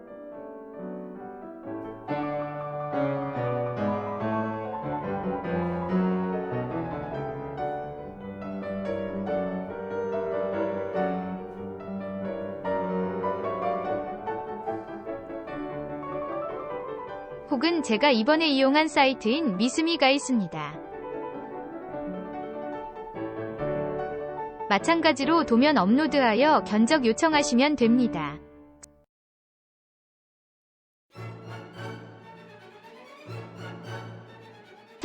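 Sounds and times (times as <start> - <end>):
piano music: 0.0 - 28.9, 31.2 - 35.0.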